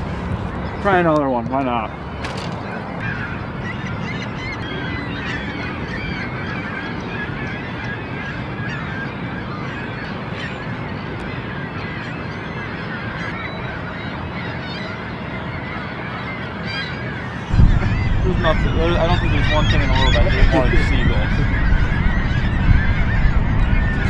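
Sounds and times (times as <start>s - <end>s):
flock of birds calling: 0.0s - 24.0s.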